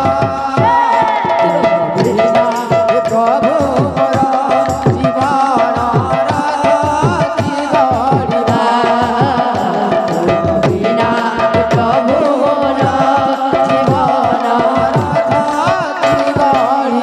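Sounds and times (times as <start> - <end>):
hand drums in fast rhythm: 0.0 - 17.0
person singing wavering melody: 0.0 - 17.0.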